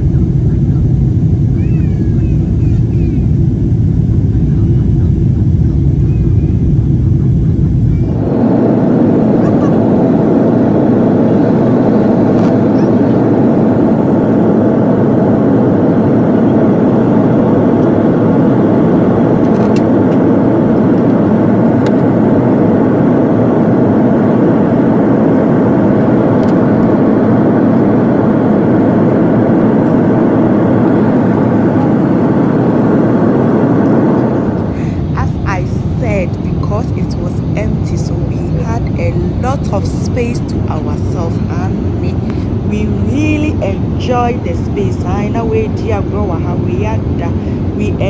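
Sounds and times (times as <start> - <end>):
jet airliner cabin noise: 0.0 - 48.0.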